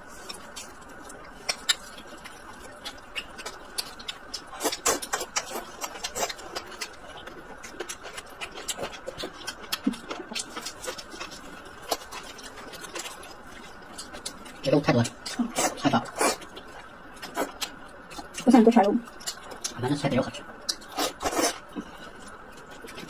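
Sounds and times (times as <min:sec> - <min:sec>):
close chewing with wet mouth clicks: 0:00.1 - 0:19.9, 0:20.6 - 0:23.0.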